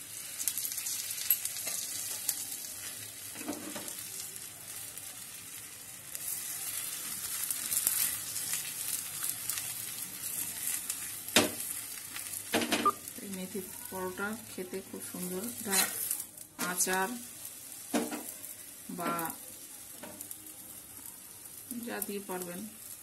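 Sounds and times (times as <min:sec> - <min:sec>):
flatbread sizzling in hot oil: 0:00.0 - 0:23.0.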